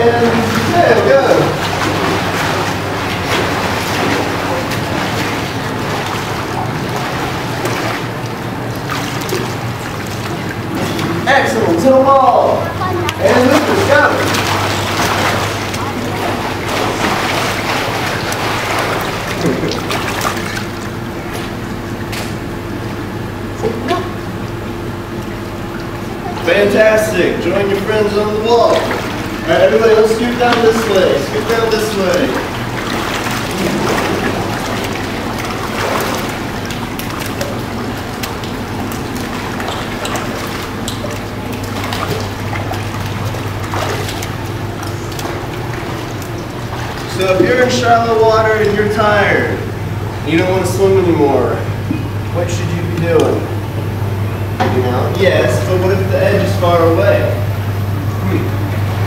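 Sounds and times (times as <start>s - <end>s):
pool water splashing: 0.0s - 59.0s
steady low hum: 0.0s - 59.0s.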